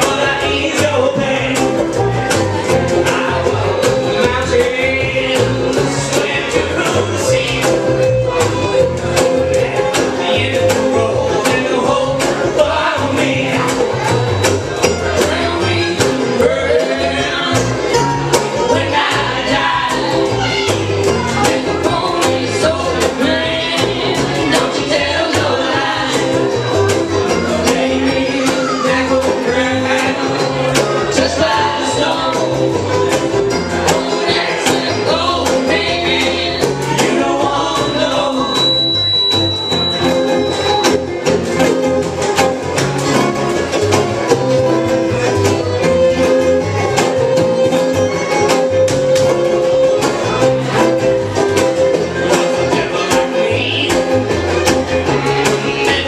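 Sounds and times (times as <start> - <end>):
acoustic folk band playing: 0.0 - 56.0.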